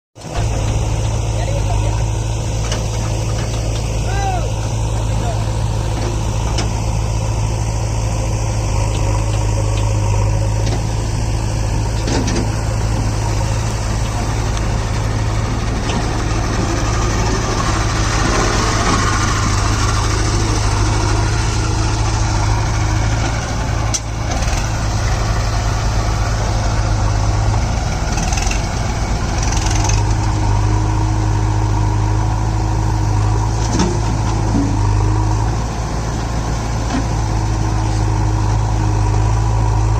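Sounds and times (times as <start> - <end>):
heavy diesel engine running: 0.2 - 39.9.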